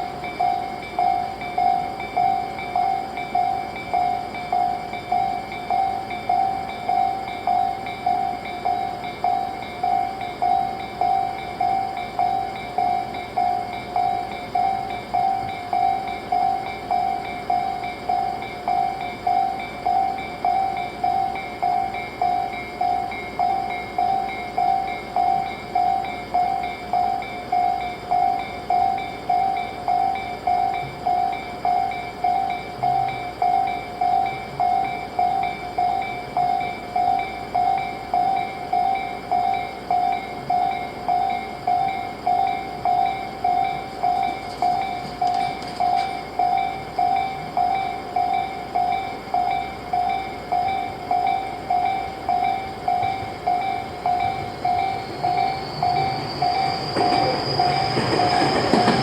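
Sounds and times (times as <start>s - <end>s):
level crossing warning bell: 0.0s - 59.0s.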